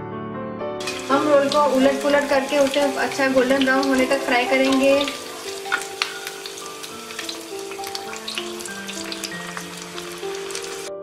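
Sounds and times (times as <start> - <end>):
soft background music: 0.0 - 11.0
food sizzling in hot oil: 0.8 - 11.0.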